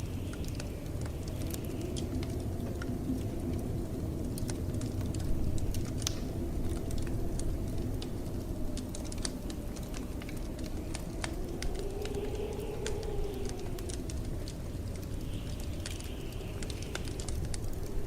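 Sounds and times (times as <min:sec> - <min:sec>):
howling blizzard wind: 0:00.0 - 0:18.0
wood fire crackling and popping: 0:00.0 - 0:18.0.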